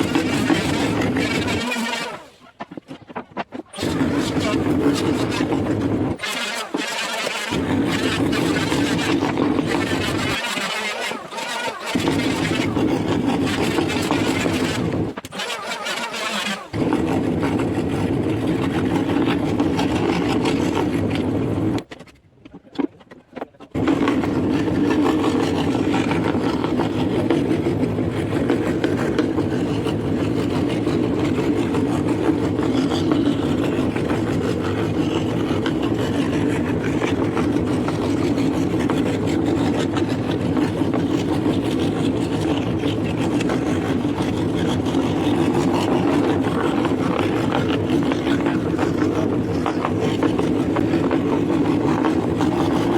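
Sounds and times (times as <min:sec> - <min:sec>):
scroll saw running: 0:00.0 - 0:03.1, 0:03.7 - 0:21.9, 0:23.8 - 0:52.9.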